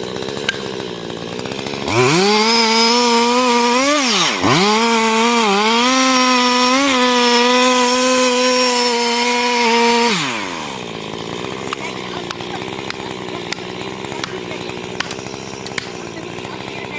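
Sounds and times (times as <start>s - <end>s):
chainsaw running at full throttle: 0.0s - 16.9s.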